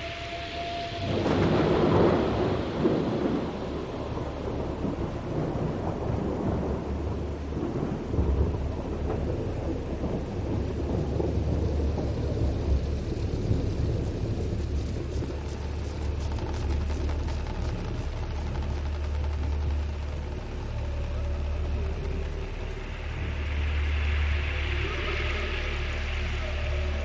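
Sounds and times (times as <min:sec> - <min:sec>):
deep steady rumble: 0:00.0 - 0:27.0
soft noisy hiss: 0:00.0 - 0:27.0.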